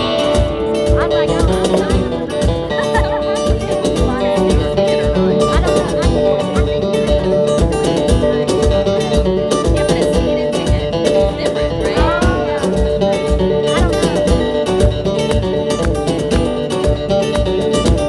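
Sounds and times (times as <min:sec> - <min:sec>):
plucked guitar: 0:00.0 - 0:18.0
steady drum beat: 0:00.0 - 0:18.0.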